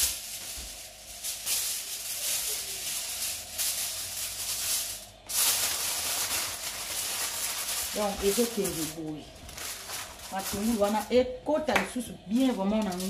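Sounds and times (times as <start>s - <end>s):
aluminium foil crinkling: 0.0s - 11.3s, 11.9s - 13.0s.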